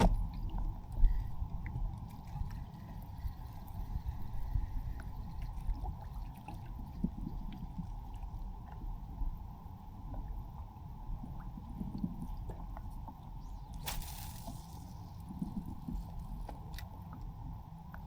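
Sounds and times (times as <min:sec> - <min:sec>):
water gurgling and lapping: 0:00.0 - 0:18.0.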